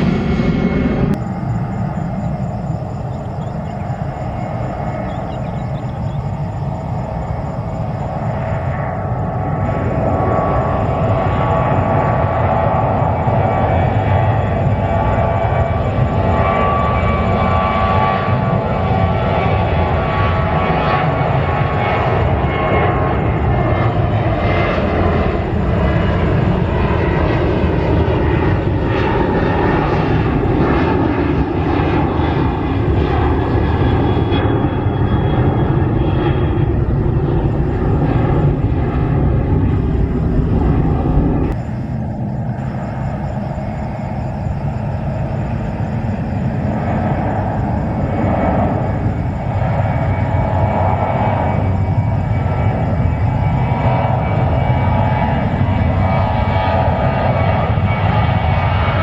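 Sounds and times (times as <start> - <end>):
airliner engines running loudly: 0.0 - 59.0.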